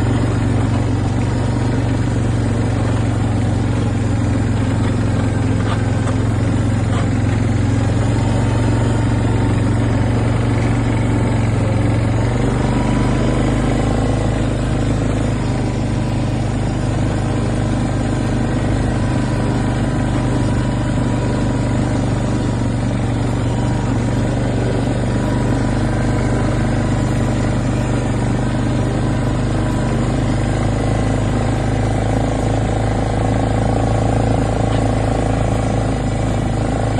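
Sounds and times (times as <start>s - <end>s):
vehicle engine humming: 0.0s - 36.9s.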